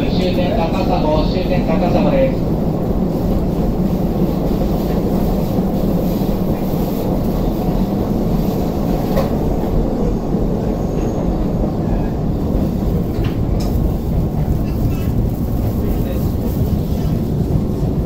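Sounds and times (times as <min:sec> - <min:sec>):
train rumble from inside car: 0:00.0 - 0:18.0.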